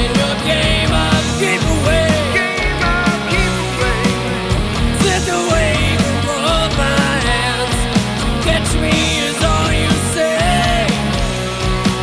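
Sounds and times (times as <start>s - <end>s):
bass guitar: 0.0s - 12.0s
electric guitar bending: 0.0s - 12.0s
steady drum beat: 0.0s - 12.0s.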